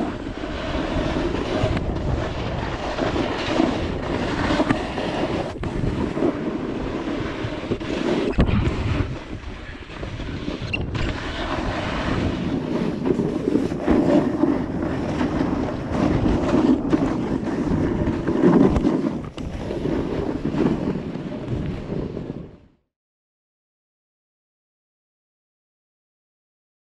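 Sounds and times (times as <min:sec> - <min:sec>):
snowboard scraping on snow: 0:00.0 - 0:22.6
wind rushing over microphone: 0:00.0 - 0:22.8.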